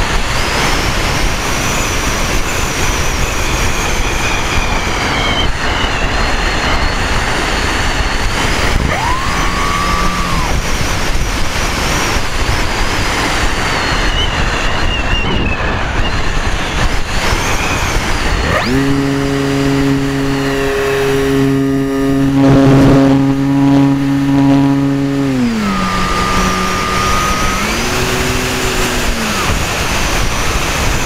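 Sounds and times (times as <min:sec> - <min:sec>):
high whine of model aircraft motor: 0:00.0 - 0:31.0
low hum with pitched tones: 0:00.0 - 0:31.0
wind rushing over camera: 0:00.0 - 0:31.0.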